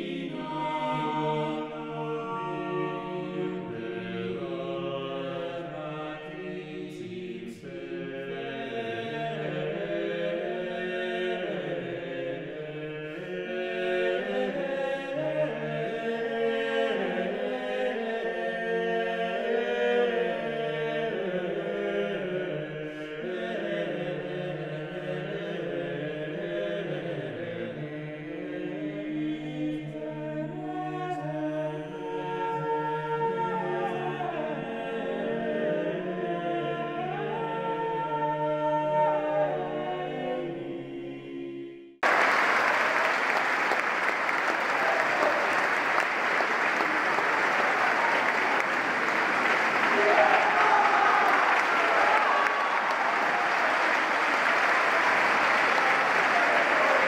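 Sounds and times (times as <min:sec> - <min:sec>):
choir singing long held notes: 0:00.0 - 0:57.0.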